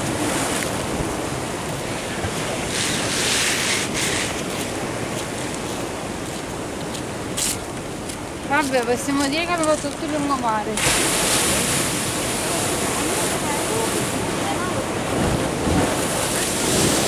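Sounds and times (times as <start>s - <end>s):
ocean surf washing in: 0.0s - 17.0s
wind buffeting microphone: 0.0s - 17.0s.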